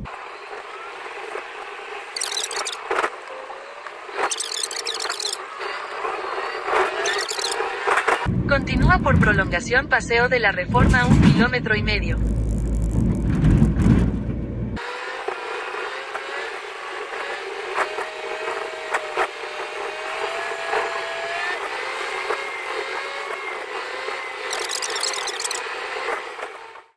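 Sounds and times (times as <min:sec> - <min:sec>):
road and engine noise in car: 0:00.0 - 0:26.9.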